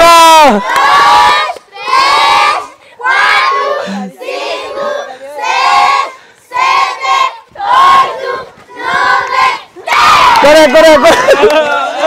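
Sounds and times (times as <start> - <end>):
children shouting in unison: 0.0 - 10.8.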